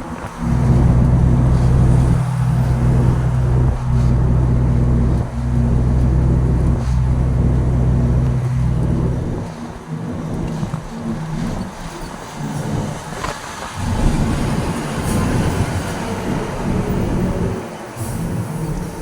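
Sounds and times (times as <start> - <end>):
truck engine drone in cab: 0.0 - 19.0.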